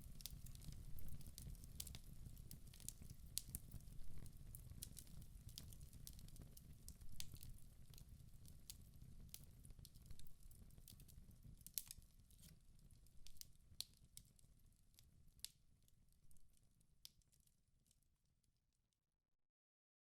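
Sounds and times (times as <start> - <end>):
wood fire crackling: 0.0 - 17.4.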